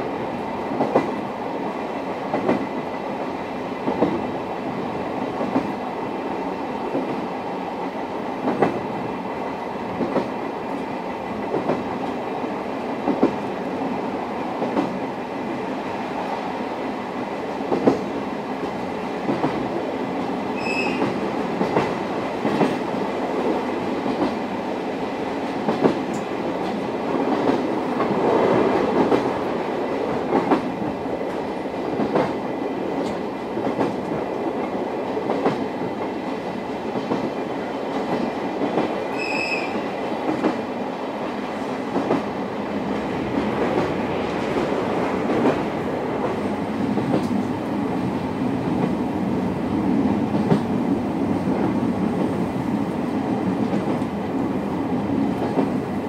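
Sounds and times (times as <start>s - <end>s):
steel wheels rumbling on rail: 0.0s - 56.0s
rail joint clicks: 0.1s - 1.3s, 2.0s - 16.4s, 17.5s - 56.0s.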